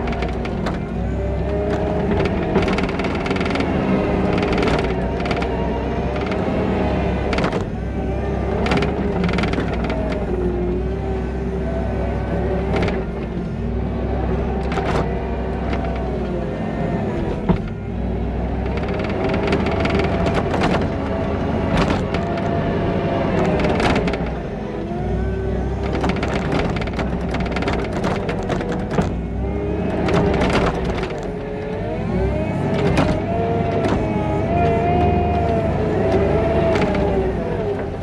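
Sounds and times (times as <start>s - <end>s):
diesel engine whining under load: 0.0s - 38.0s.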